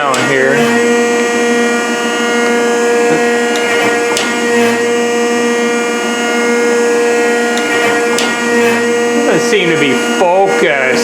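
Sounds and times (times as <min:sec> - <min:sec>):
planer machine hum: 0:00.0 - 0:11.0.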